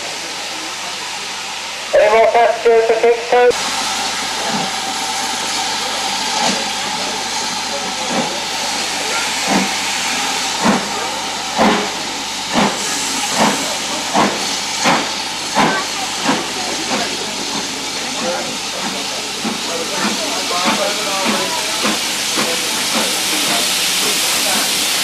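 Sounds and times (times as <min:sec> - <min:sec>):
steam hissing: 0:00.0 - 0:25.0
steam locomotive exhaust chuffs: 0:03.6 - 0:25.0.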